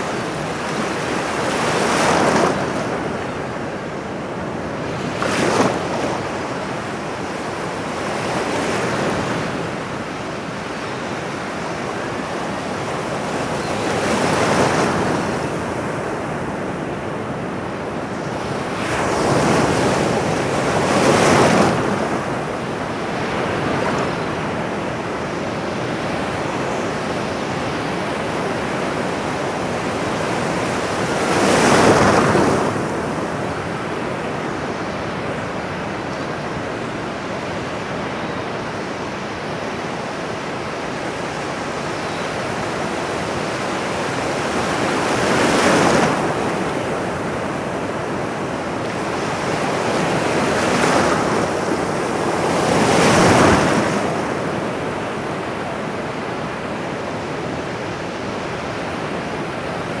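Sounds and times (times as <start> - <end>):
ocean waves breaking on shore: 0.0 - 60.0.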